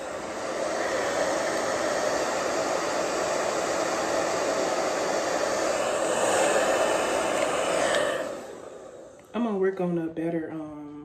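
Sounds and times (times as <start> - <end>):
hair dryer blowing air: 0.0 - 9.3.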